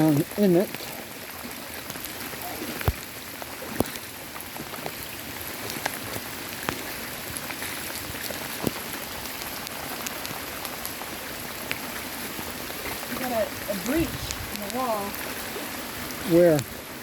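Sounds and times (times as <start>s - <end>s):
raindrops striking close by: 0.0s - 17.0s
steady rain hiss: 0.0s - 17.0s.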